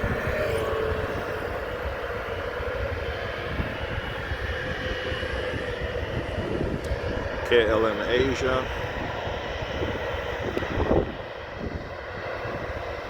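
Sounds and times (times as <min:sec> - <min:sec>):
distant jet engines running: 0:00.0 - 0:13.0.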